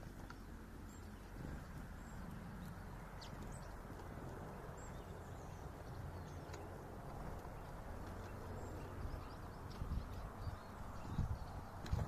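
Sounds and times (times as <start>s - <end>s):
birds pecking clicks: 0.0s - 12.0s
low steady rumble: 0.0s - 12.0s.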